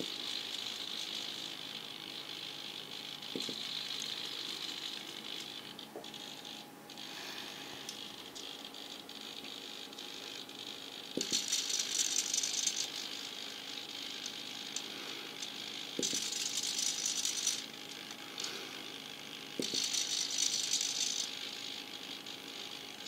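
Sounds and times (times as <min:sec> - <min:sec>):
servo gear buzzing: 0:00.0 - 0:23.0.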